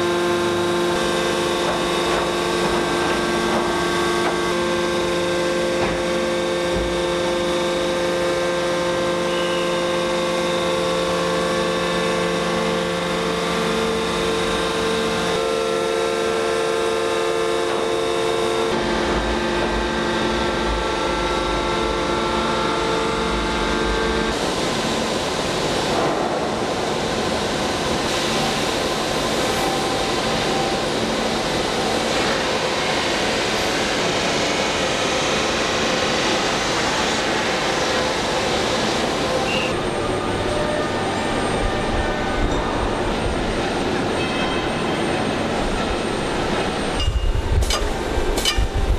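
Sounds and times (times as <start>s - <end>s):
industrial machinery humming: 0.0s - 48.9s.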